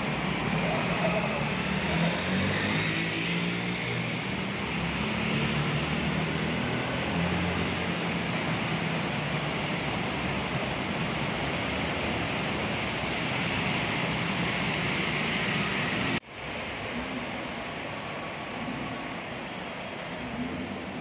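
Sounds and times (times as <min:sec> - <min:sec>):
floodwater rushing and splashing: 0:00.0 - 0:21.0.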